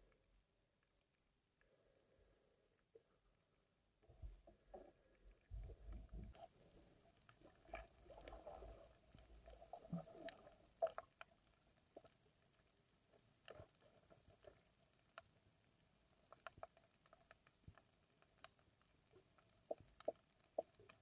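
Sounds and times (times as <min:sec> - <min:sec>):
faint underwater clicks and crackles: 0:00.0 - 0:21.0.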